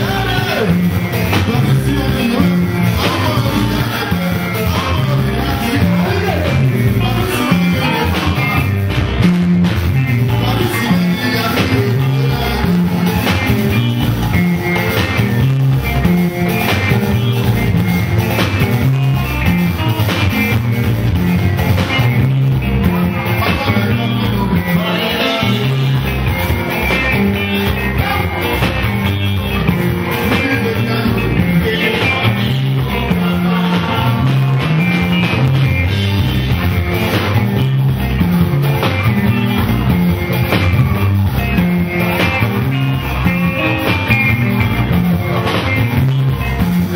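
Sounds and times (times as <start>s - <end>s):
live band music: 0.0s - 46.9s.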